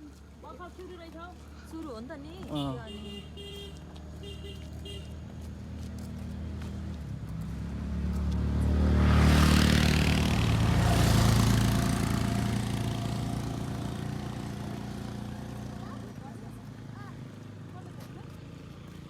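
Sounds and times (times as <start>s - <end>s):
vehicle passing by: 1.4s - 19.0s.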